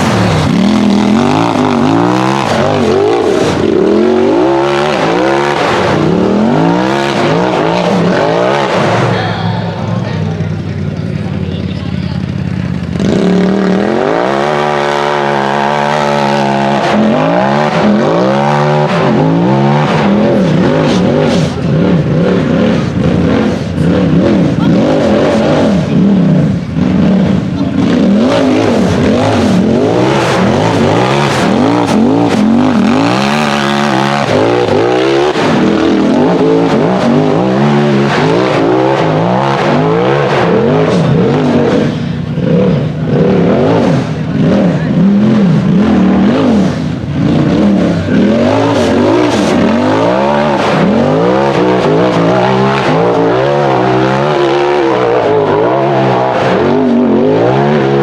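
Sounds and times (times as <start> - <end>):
buggy engine revving: 0.0 - 58.0.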